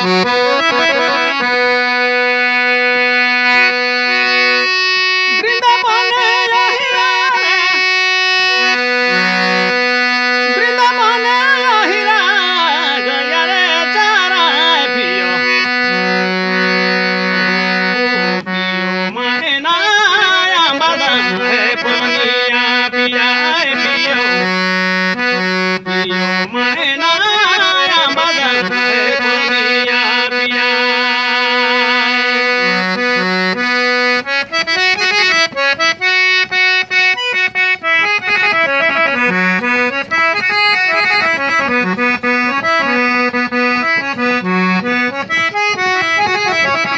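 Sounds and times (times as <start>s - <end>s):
ornamented folk melody: 0.0s - 46.9s.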